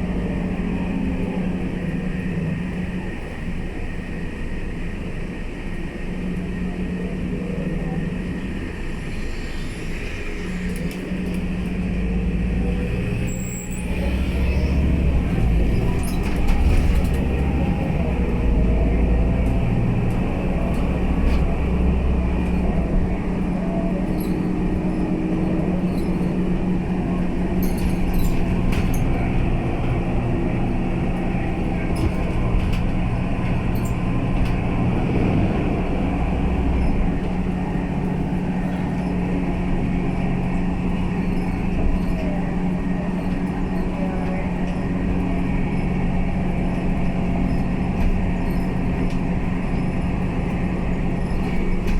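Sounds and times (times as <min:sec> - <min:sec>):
bus engine drone: 0:00.0 - 0:51.9.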